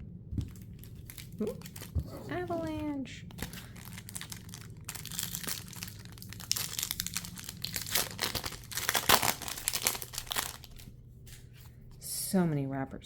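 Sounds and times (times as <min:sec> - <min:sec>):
plastic wrappers crinkling and tearing: 0:00.4 - 0:11.0.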